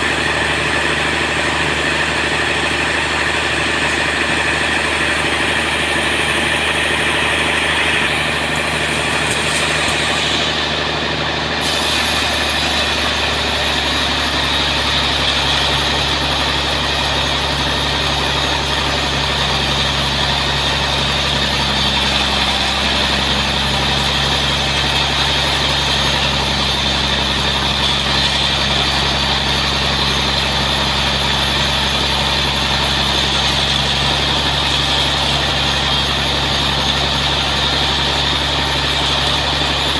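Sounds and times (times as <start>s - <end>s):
engine hum: 0.0s - 39.9s
saw running: 0.0s - 39.9s.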